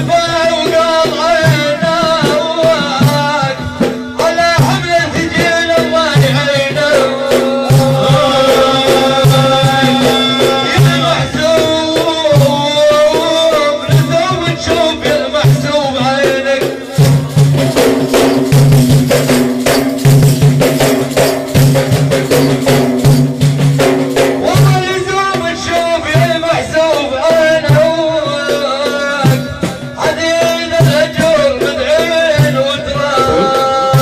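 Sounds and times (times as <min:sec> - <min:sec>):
lead voice chanting melody: 0:00.0 - 0:17.6, 0:24.4 - 0:34.0
frame drums beating: 0:00.0 - 0:34.0.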